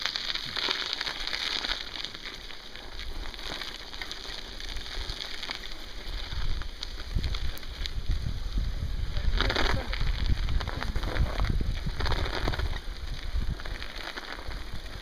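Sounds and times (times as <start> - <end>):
bike tyres crunching on snow: 0.0 - 15.0.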